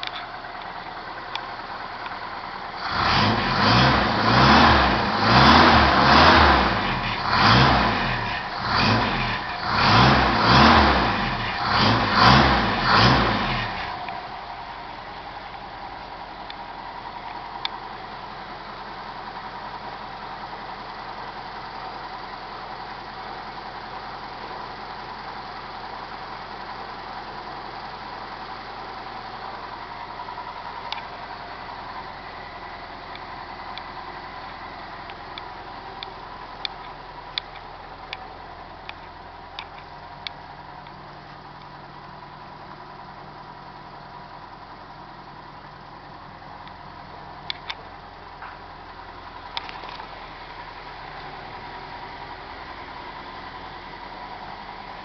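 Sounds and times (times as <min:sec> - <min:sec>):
jeep engine idling: 0:00.0 - 0:55.0.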